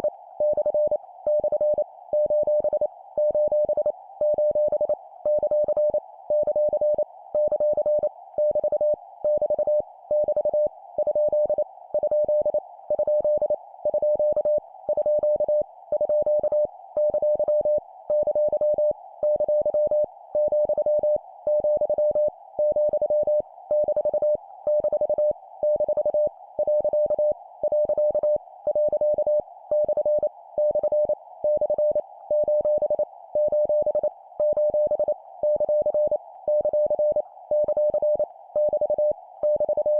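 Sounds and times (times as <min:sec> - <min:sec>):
morse code beeps: 0:00.4 - 0:39.9.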